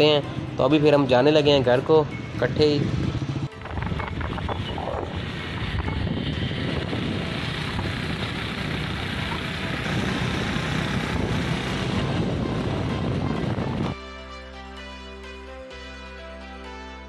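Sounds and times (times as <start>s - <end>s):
motorcycle running: 0.0s - 14.0s.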